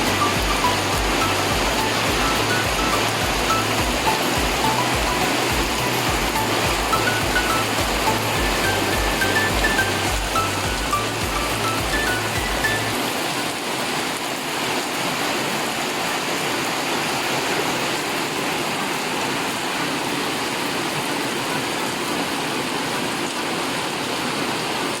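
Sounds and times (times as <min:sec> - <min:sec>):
rain falling on plants: 0:00.0 - 0:25.0.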